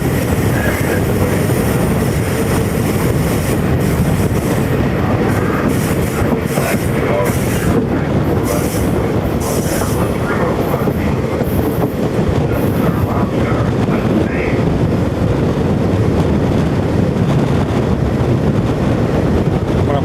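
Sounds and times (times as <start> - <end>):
rushing air: 0.0 - 20.0
train wheels rumbling on rails: 0.0 - 20.0.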